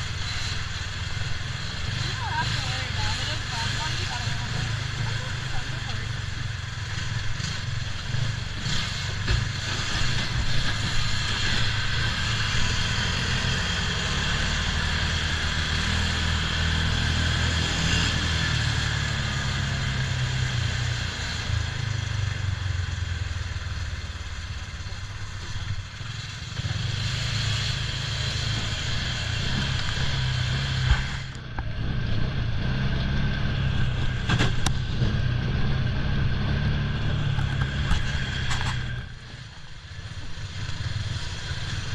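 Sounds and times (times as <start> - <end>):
buggy engine running: 0.0 - 41.9.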